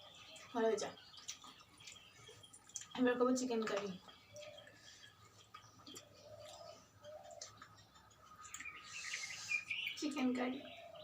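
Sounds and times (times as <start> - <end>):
faint eating clicks: 0.0 - 10.8
faint birds calling: 0.0 - 11.0.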